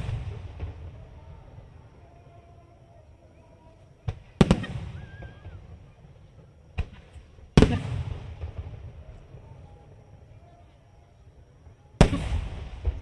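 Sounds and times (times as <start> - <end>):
fireworks booming: 0.0 - 10.6, 11.5 - 13.0
small firework report: 0.0 - 13.0.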